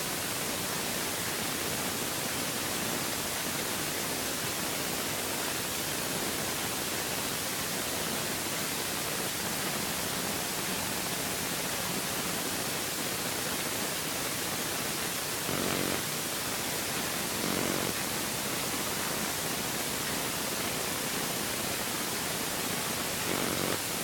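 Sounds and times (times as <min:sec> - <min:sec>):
steady hissing rush: 0:00.0 - 0:24.0.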